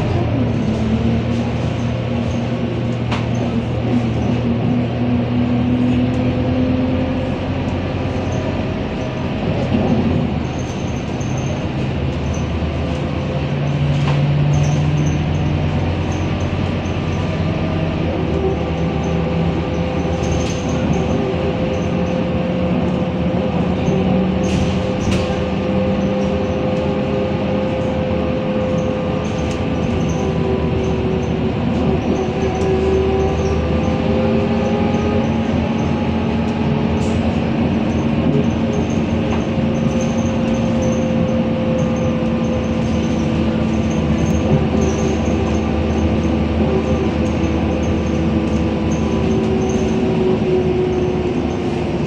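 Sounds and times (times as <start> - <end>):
bus diesel engine: 0.0 - 52.0
road and tyre noise: 0.0 - 52.0.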